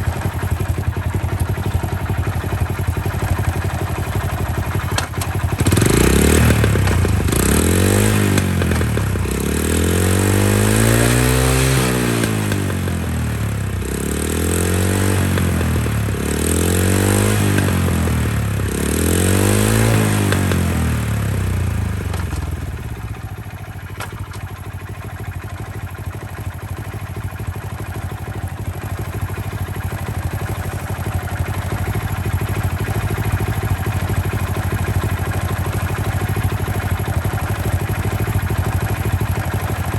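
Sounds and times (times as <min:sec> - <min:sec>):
small engine revving and idling: 0:00.0 - 0:39.9.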